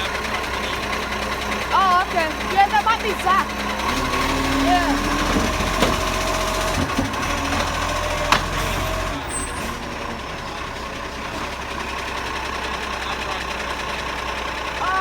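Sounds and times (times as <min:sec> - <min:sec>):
garbage truck engine rumble: 0:00.0 - 0:15.0.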